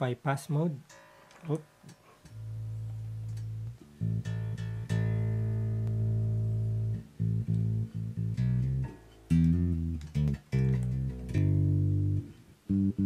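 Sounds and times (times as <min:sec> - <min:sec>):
electric bass plucked: 0:02.4 - 0:13.0.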